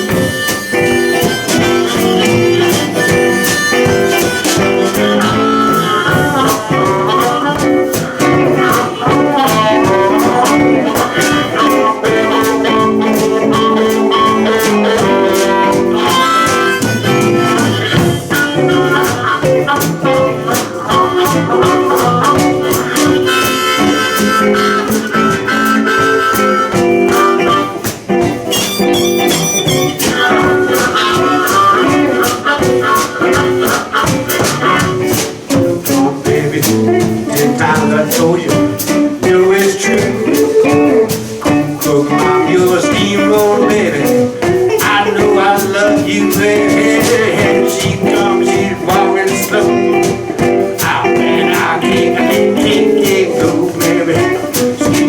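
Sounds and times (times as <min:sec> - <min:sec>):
guitars: 0:00.0 - 0:55.0
harmonica playing lead: 0:00.0 - 0:55.0
steady drum beat: 0:00.0 - 0:55.0.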